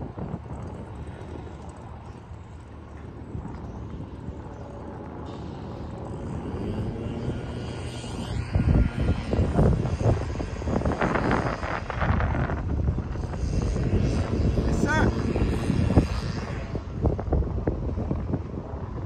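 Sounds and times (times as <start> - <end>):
distant engine drone: 0.0 - 19.0
steady outdoor rumble: 0.0 - 19.0.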